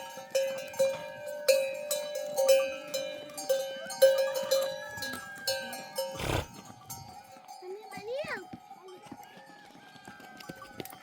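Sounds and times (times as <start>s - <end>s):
metal livestock bell clanking: 0.0s - 9.1s.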